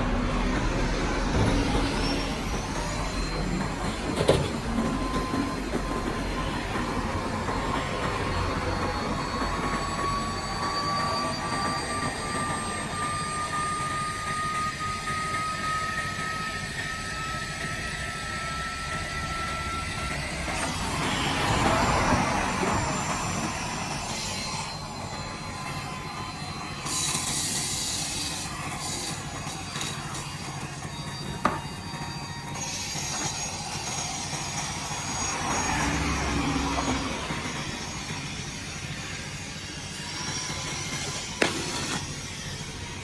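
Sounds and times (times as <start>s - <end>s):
handheld vacuum cleaner whining: 0.0s - 43.0s.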